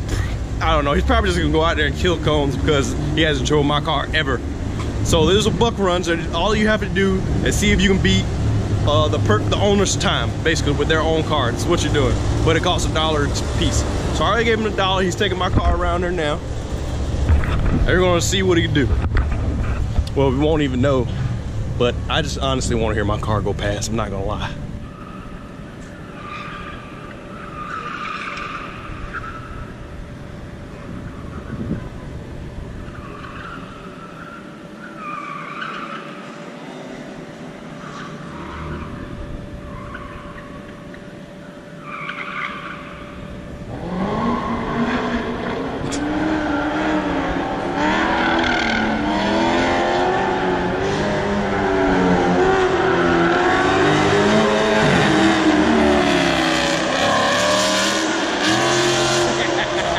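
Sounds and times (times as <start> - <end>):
car engine revving: 0.0 - 37.0, 41.8 - 59.9.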